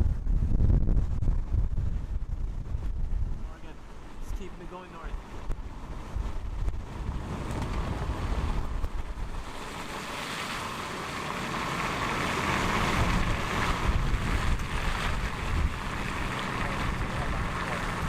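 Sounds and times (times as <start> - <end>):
road rumble and wind buffeting: 0.0 - 18.0.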